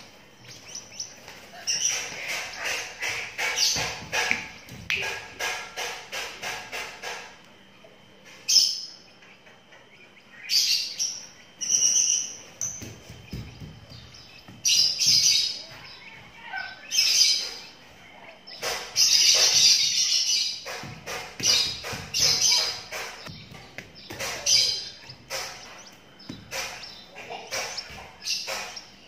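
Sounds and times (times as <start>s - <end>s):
bird chick rasping chirps: 0.0s - 7.3s, 8.6s - 29.0s.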